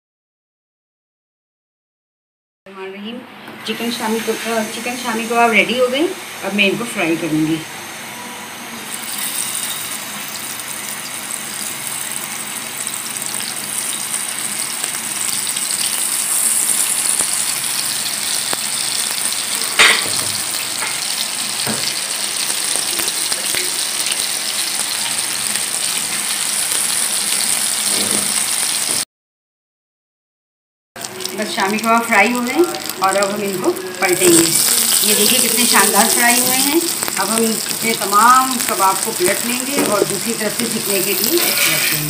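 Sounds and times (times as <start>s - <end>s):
food sizzling in oil: 3.7s - 29.0s, 31.0s - 42.0s.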